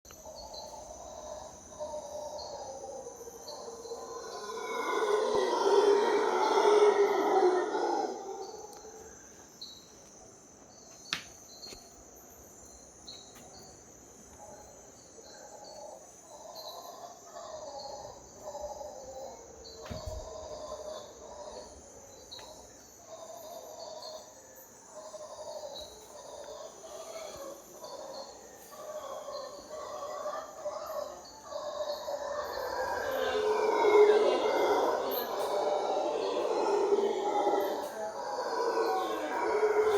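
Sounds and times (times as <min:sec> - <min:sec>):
howler monkeys calling: 0:00.1 - 0:09.4, 0:14.3 - 0:39.9
high insect drone: 0:00.1 - 0:39.9.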